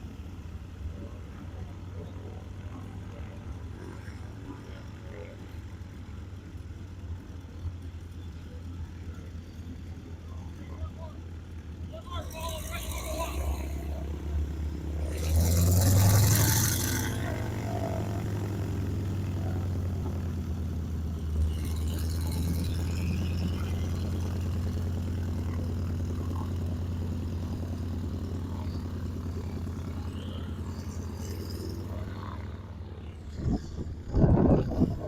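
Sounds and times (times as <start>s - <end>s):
propeller airplane engine rumbling: 0.0s - 35.0s.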